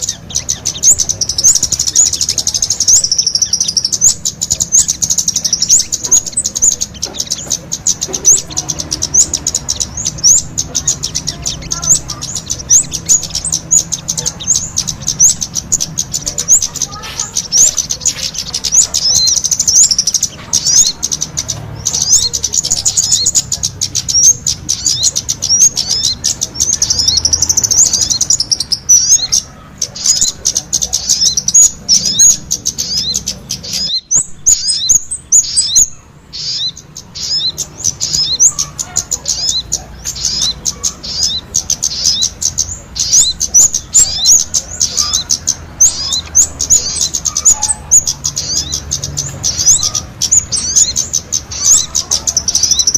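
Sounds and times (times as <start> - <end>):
songbirds chirping and trilling: 0.0 - 52.9.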